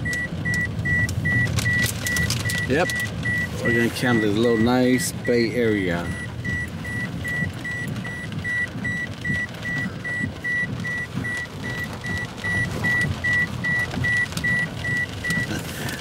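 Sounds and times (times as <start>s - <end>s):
high-pitched warning chime beeping: 0.0s - 15.5s
car rumble: 0.0s - 16.0s.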